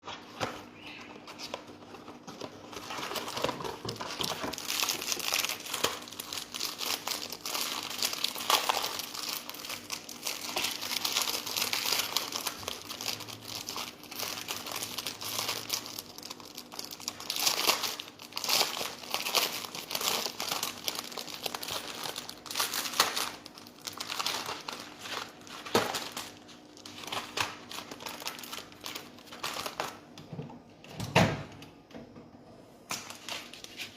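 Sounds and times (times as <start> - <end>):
wrapper crinkling and rustling: 0.0 - 30.1, 32.9 - 33.9
wrapper tearing: 0.1 - 30.0.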